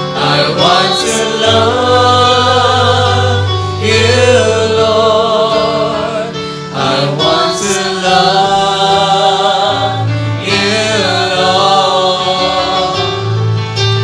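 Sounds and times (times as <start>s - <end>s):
voices singing with vibrato: 0.0s - 13.6s.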